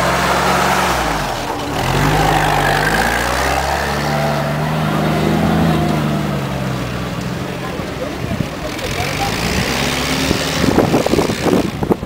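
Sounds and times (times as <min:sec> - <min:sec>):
jeep engine running under load: 0:00.0 - 0:12.0.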